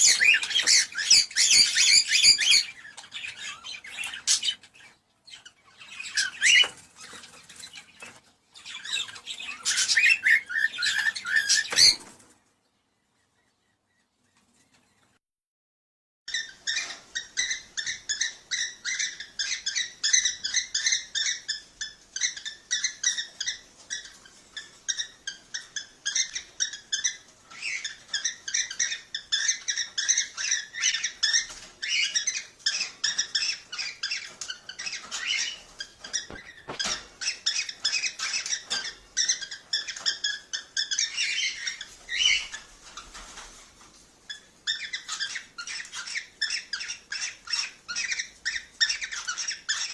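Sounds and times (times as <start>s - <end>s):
cockatiels chirping: 0.0s - 12.2s, 16.3s - 43.7s, 44.3s - 49.9s.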